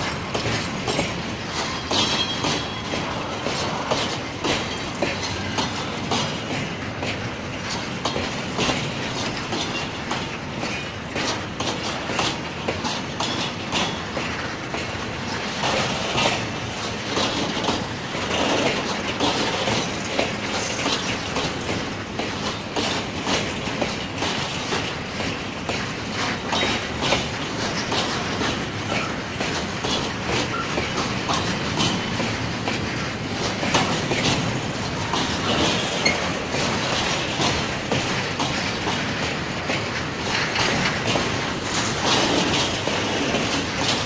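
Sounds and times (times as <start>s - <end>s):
train rolling noise: 0.0s - 44.0s
wheels clattering over rail joints: 0.0s - 44.0s.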